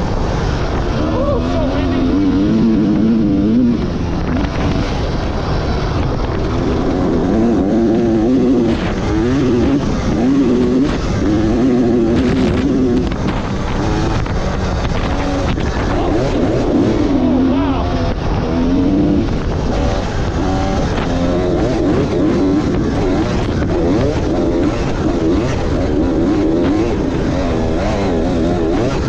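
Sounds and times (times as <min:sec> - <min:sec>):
dirt bike engine revving: 0:00.0 - 0:29.0
wind noise: 0:00.0 - 0:29.0.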